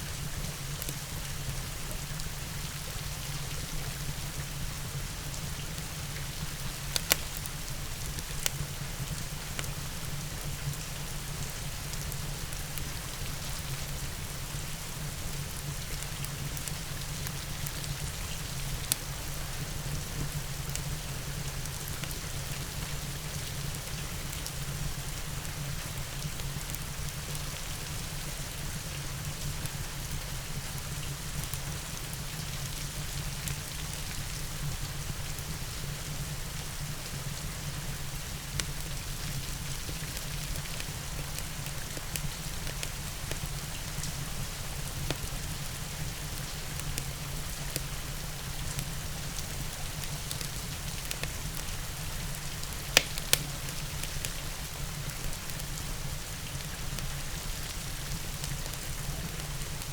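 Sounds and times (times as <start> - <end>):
steady rain: 0.0 - 59.9
wood fire crackling: 4.4 - 34.4, 37.9 - 59.9.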